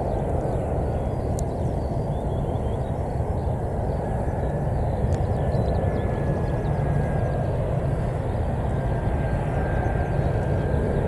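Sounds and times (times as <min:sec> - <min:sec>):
distant jet airliner rumble: 0:00.0 - 0:11.0
faint thin engine whine: 0:00.0 - 0:11.0.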